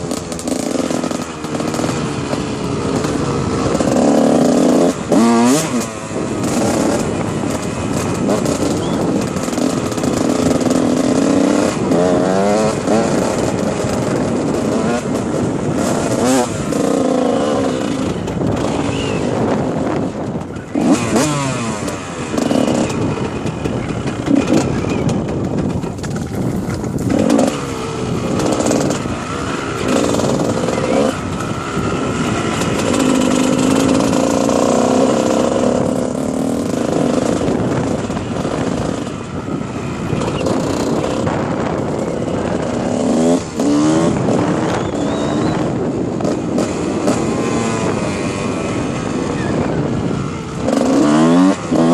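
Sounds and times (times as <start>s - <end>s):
dirt bike engine revving: 0.0s - 51.9s
steady rushing noise: 0.0s - 51.9s.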